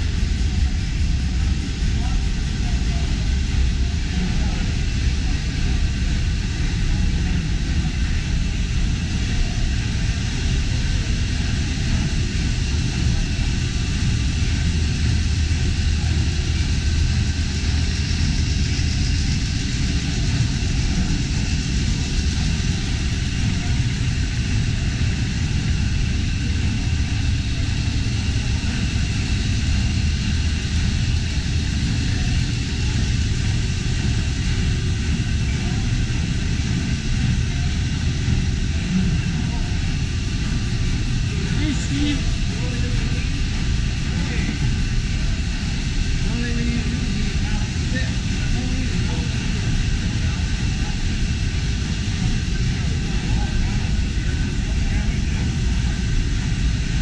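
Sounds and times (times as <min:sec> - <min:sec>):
engine room machinery din: 0:00.0 - 0:57.0.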